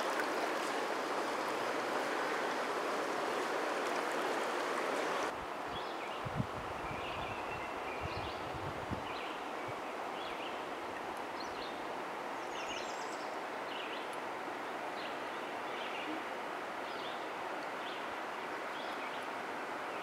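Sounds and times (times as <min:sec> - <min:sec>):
flowing river water: 0:00.0 - 0:20.0.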